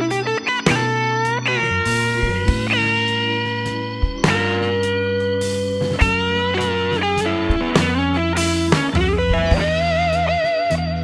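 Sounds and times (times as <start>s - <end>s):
plucked guitar melody: 0.0s - 11.0s
steady bass: 0.0s - 11.0s.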